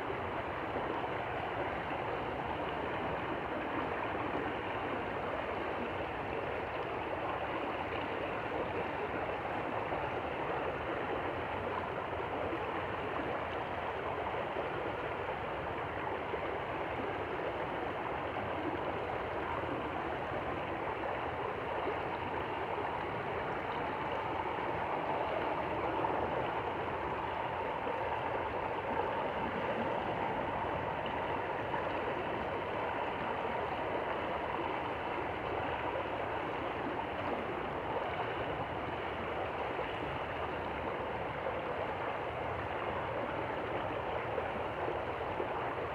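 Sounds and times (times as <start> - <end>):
stream water rushing and gurgling: 0.0 - 45.9.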